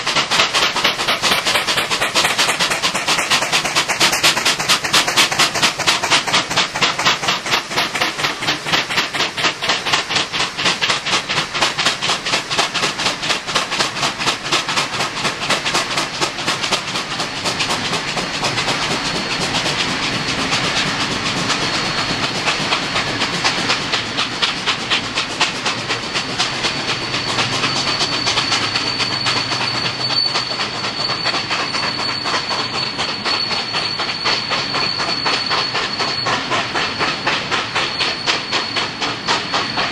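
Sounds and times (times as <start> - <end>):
steam locomotive exhaust beats: 0.0 - 39.9
train clatter: 0.0 - 39.9.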